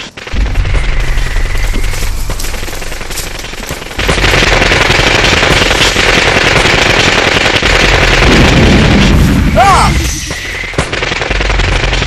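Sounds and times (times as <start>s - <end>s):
automatic gunfire: 0.2s - 9.2s, 10.6s - 12.0s.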